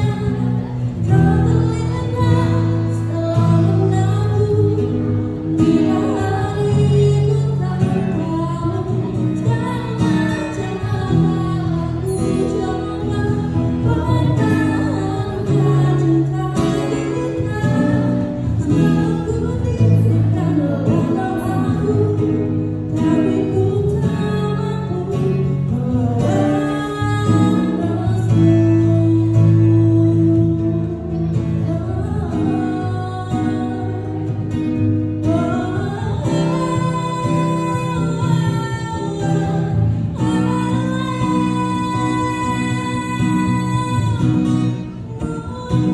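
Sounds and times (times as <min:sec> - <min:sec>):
acoustic guitar: 0:00.0 - 0:45.9
woman singing into a microphone: 0:00.0 - 0:45.9.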